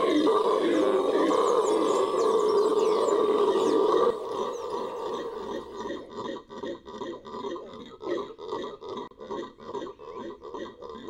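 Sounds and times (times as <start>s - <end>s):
howler monkey roaring: 0.0s - 11.0s.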